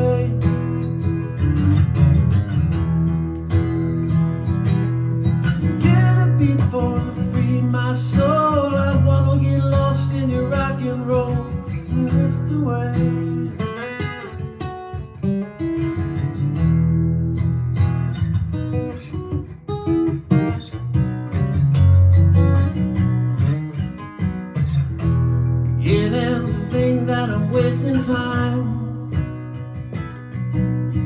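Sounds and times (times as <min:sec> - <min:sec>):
acoustic guitar strummed and picked: 0:00.0 - 0:31.0.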